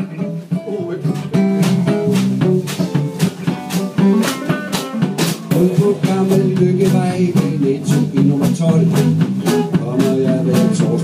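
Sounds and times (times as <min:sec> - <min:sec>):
acoustic guitar: 0:00.0 - 0:11.0
drums: 0:00.0 - 0:11.0
electric guitar: 0:00.0 - 0:11.0.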